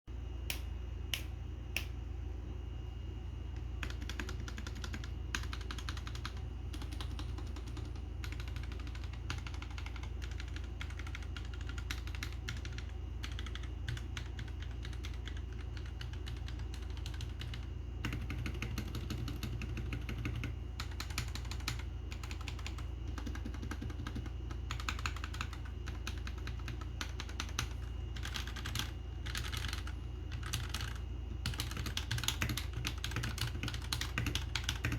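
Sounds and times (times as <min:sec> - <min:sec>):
steady low hum: 0:00.1 - 0:34.9
mechanical keyboard typing: 0:03.8 - 0:34.9.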